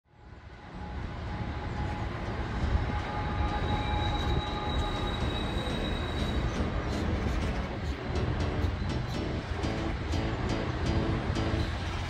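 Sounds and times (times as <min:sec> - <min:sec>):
diesel locomotive rumbling: 0:00.2 - 0:12.0.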